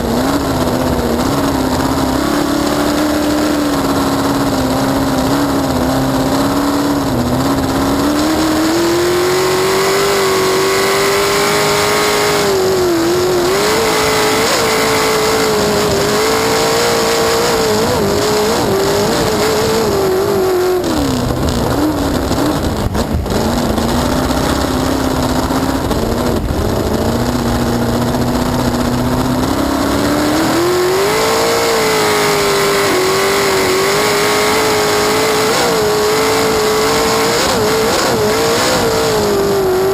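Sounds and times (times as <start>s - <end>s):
race boat engine running hard: 0.0s - 39.9s.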